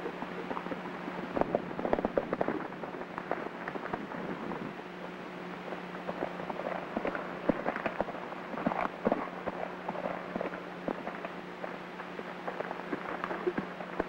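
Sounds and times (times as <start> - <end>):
horses galloping on dirt: 0.0 - 4.9, 5.6 - 14.0
film soundtrack crackle and hiss: 0.0 - 14.0.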